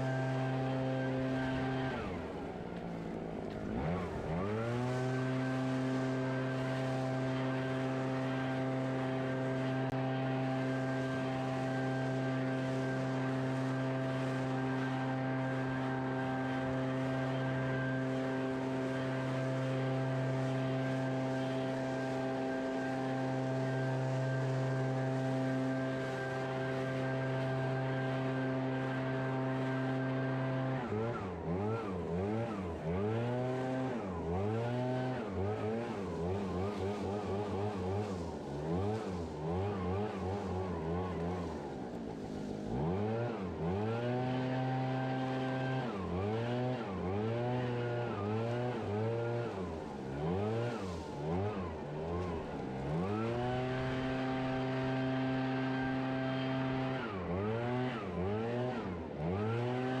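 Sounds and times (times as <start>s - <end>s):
small gasoline engine revving: 0.0s - 60.0s.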